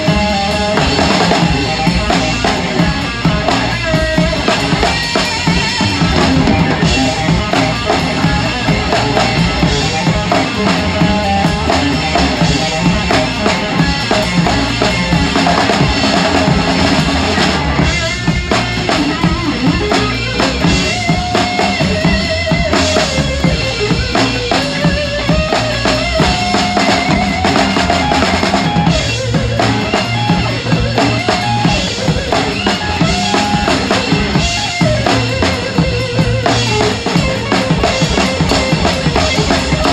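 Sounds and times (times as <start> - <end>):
drum kit played hard: 0.0 - 39.9
rock band playing: 0.0 - 39.9.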